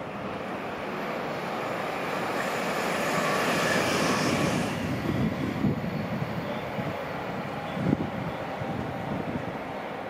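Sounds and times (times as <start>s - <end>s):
electric train approaching: 0.0s - 10.0s.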